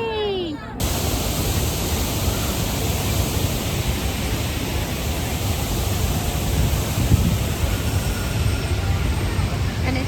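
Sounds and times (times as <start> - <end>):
wind buffeting microphone: 0.8 - 10.0.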